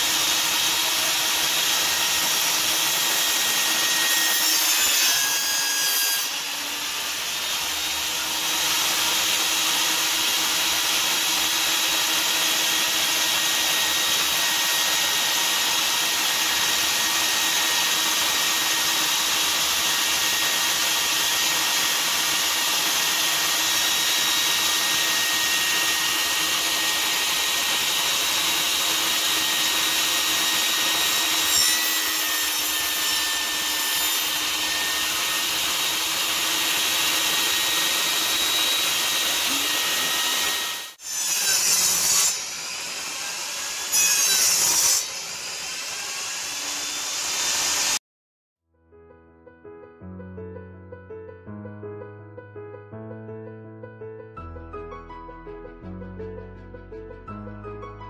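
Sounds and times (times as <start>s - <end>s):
table saw cutting boards: 0.0s - 48.0s.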